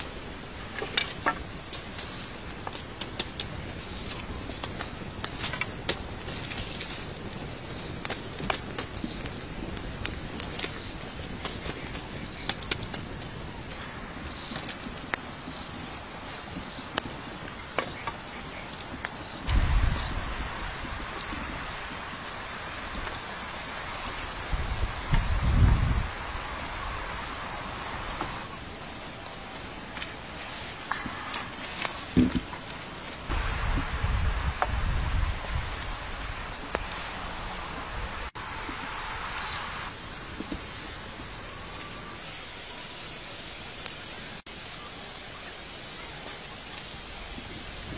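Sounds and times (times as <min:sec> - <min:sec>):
embers popping: 0:00.0 - 0:42.3
wood fire crackling: 0:00.0 - 0:47.9.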